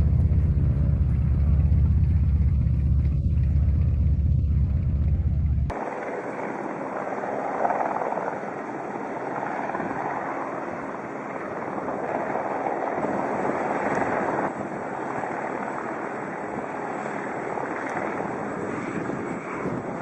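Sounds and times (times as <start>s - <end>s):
aircraft in flight: 0.0s - 20.0s.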